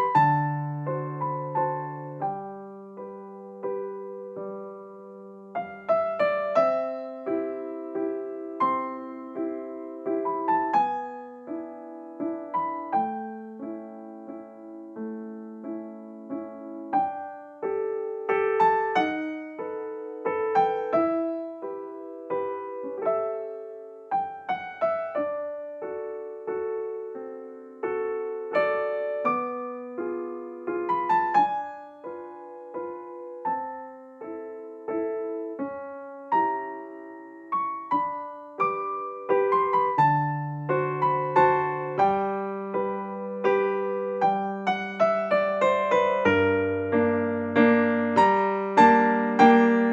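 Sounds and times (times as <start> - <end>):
slow solo piano music: 0.0 - 49.9.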